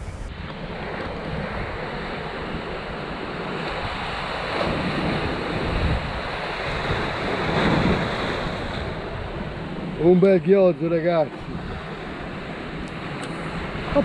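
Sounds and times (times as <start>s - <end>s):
surf breaking on rocks: 0.0s - 14.0s
wind buffeting microphone: 0.0s - 14.0s.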